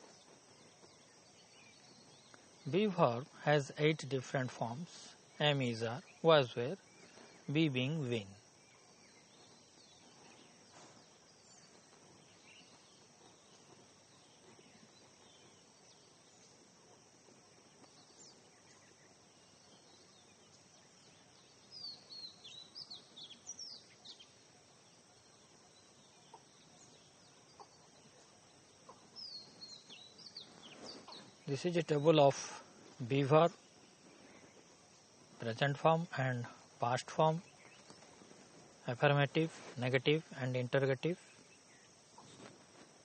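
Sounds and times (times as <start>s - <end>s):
birds chirping faintly: 0.0s - 43.0s.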